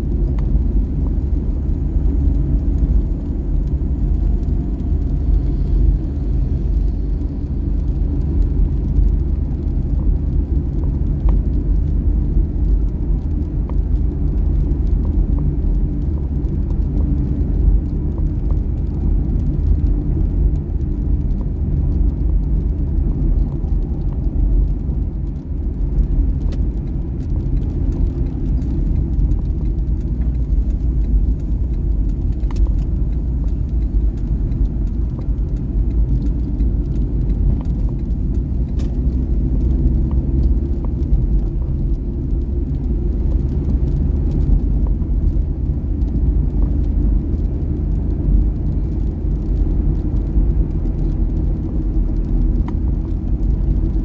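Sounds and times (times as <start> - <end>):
car engine rumble: 0.0 - 54.0
tyres on wet road: 0.0 - 54.0.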